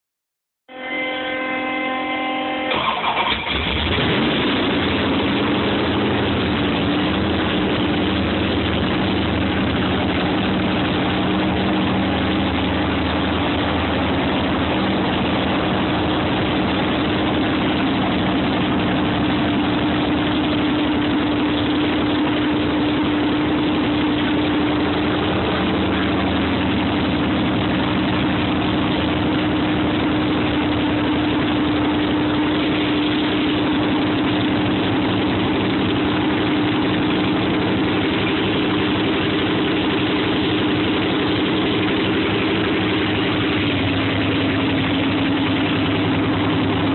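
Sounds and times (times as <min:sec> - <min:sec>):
car starter whine: 0:00.9 - 0:46.9
car engine idling: 0:02.6 - 0:46.9.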